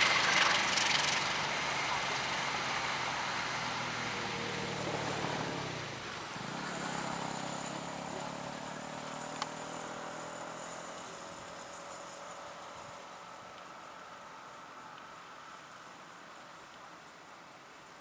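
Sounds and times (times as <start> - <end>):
diesel locomotive engine drone: 0.0 - 16.4.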